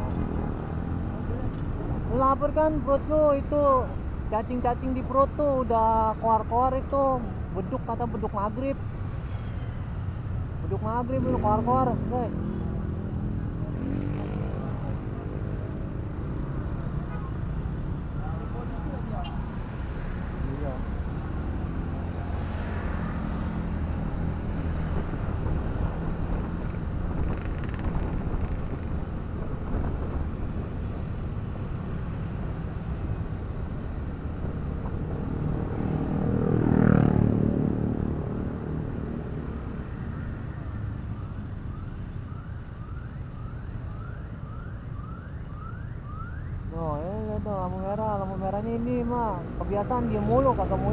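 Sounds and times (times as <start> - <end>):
vehicle passing: 0.0 - 41.8, 44.5 - 50.9
motorcycle engine and road noise: 0.0 - 50.9.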